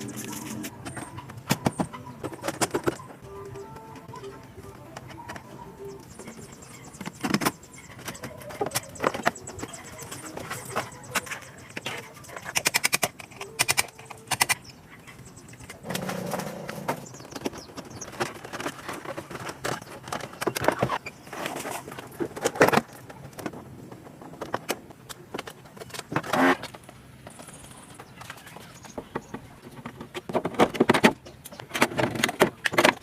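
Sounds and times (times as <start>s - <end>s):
hard parts clicking and rattling: 0.0s - 33.0s.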